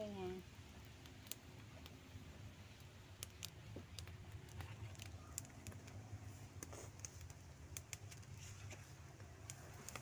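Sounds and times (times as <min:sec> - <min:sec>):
fire crackling: 0:00.0 - 0:10.0.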